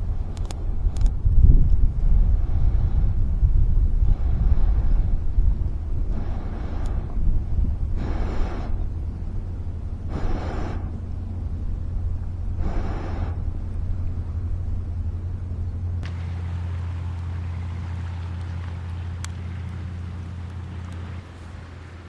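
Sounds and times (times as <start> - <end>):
steady low hum: 0.0 - 22.0
wind rumbling on microphone: 0.0 - 22.0.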